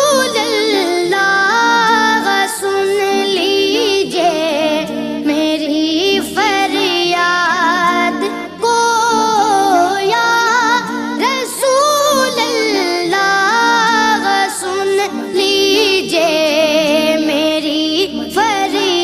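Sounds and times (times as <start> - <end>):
high voice singing devotional song: 0.0 - 19.0.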